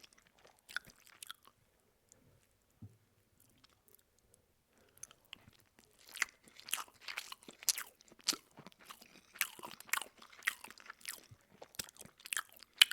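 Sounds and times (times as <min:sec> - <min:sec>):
open-mouthed chewing: 0:00.0 - 0:02.2, 0:03.4 - 0:12.9.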